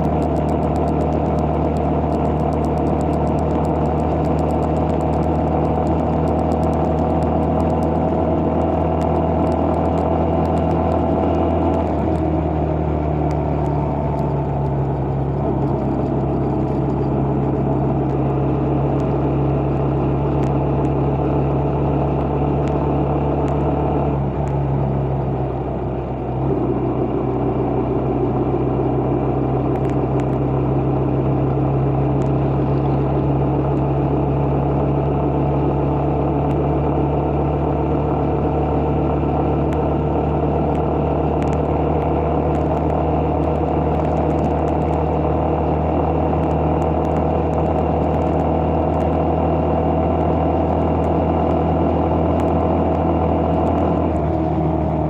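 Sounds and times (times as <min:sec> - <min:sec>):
road and wind noise: 0:00.0 - 0:55.0
vehicle engine cruising: 0:00.0 - 0:55.0.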